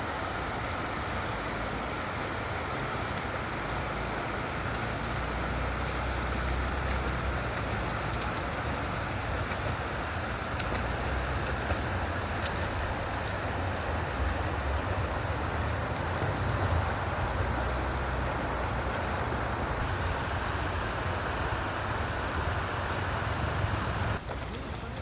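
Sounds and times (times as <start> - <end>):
water noise: 0.0 - 25.0.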